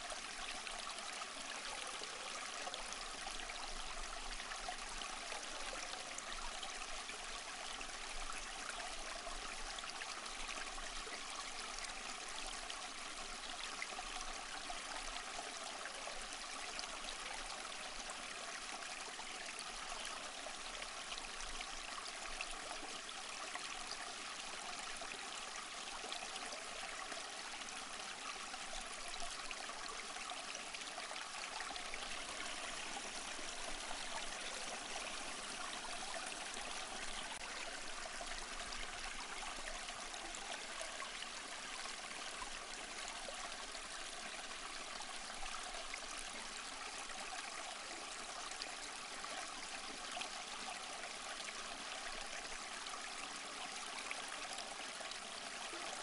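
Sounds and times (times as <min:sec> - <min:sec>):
small stream flowing: 0:00.0 - 0:56.0.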